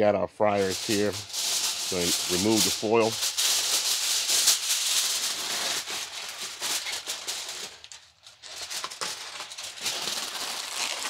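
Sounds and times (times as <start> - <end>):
aluminium foil crinkling: 0.5 - 11.0.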